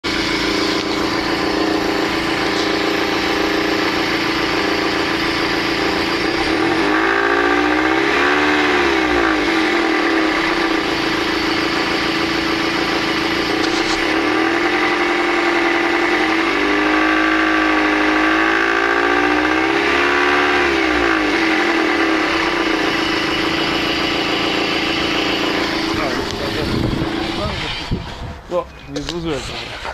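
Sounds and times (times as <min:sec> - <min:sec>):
car engine revving: 0:00.0 - 0:29.9
engine rattling resonance: 0:00.0 - 0:29.9.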